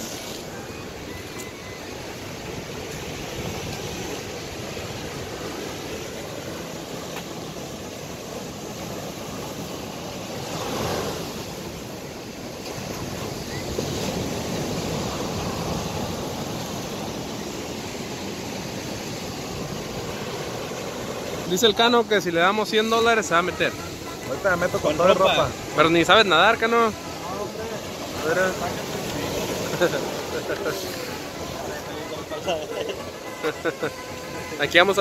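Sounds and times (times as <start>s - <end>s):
ocean surf washing ashore: 0.0s - 35.0s.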